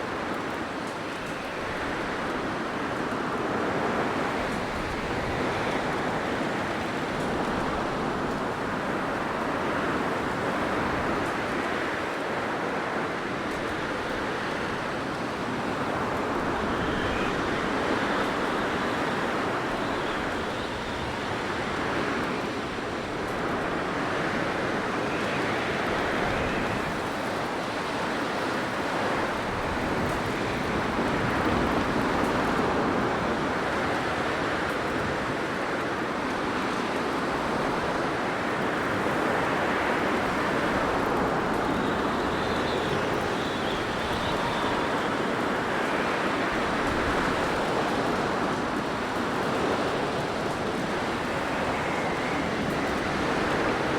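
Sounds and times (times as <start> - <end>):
blizzard wind blowing: 0.0 - 53.9.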